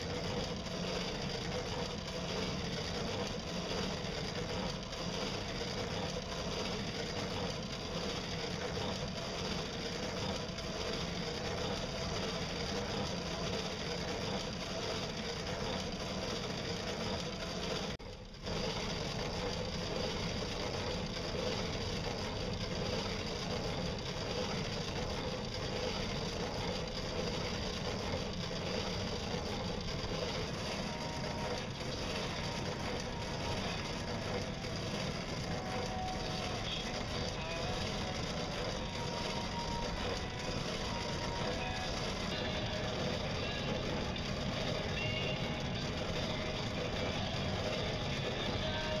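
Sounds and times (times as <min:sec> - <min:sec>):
boat drive running: 0:00.0 - 0:49.0.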